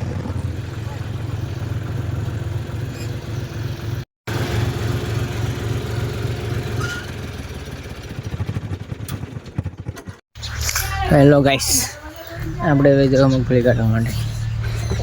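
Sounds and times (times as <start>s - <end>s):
diesel tractor engine idling: 0.4s - 9.6s, 10.4s - 15.0s.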